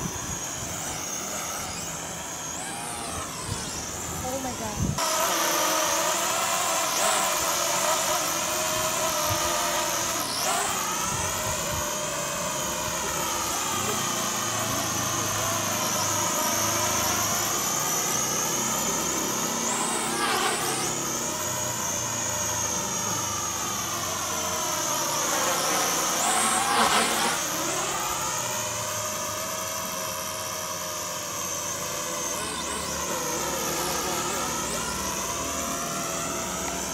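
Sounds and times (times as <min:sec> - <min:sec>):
toy drone motors whining: 0:00.0 - 0:36.9.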